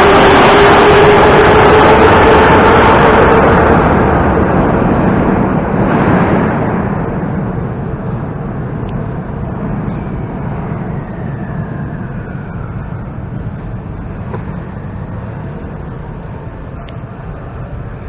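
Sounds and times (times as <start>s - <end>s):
faint whine falling in pitch: 0.0s - 18.0s
train rumbling in tunnel: 0.0s - 18.0s.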